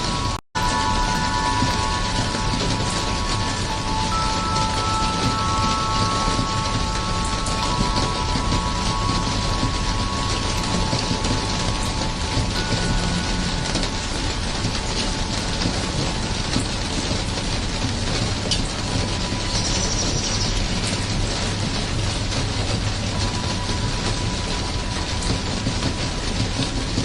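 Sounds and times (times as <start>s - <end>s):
faint steady tones: 0.0s - 27.0s
steady rain falling: 0.0s - 27.0s.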